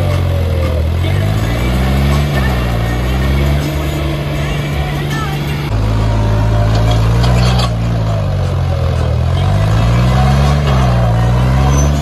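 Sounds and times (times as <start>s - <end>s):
tractor diesel engine running hard: 0.0s - 12.0s.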